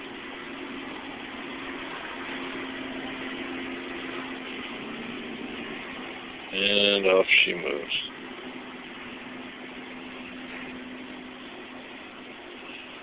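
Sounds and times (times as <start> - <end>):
faint constant tone: 0.0 - 13.0
room noise hum and hiss: 0.0 - 13.0.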